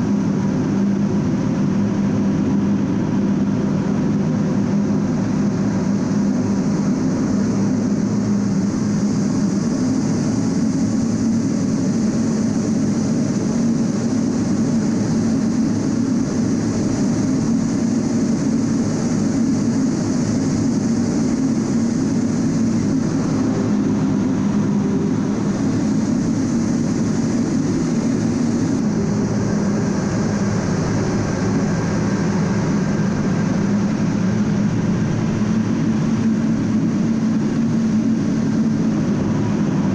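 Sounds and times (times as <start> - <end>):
jet engines droning in cockpit: 0.0 - 39.9
rushing air: 0.0 - 39.9.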